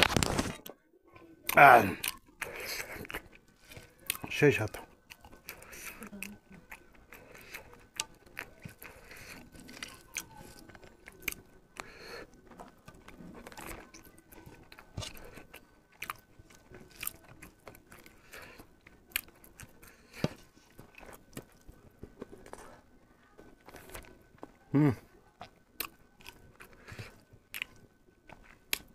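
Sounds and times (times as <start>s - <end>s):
wet chewing and lip smacks: 1.4s - 22.6s, 25.4s - 28.9s.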